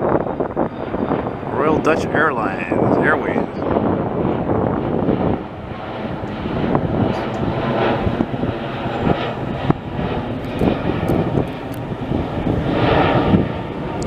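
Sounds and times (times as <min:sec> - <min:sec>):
jet airliner passing: 0:00.0 - 0:14.0.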